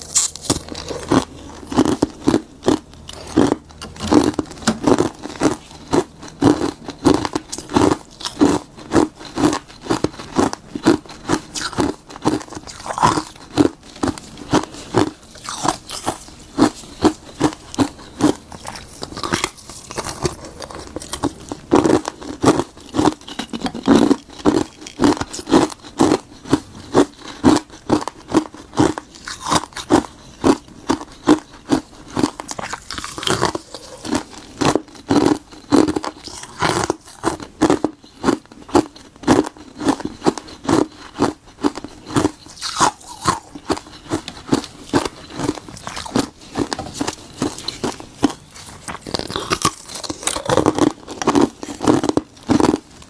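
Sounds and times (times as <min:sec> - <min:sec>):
ice crunching being chewed: 0:00.0 - 0:53.0.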